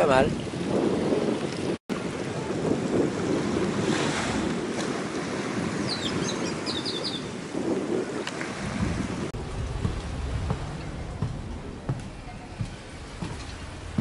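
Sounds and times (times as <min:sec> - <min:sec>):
wind buffeting microphone: 0:00.0 - 0:14.0
small waves washing on shingle: 0:01.3 - 0:14.0.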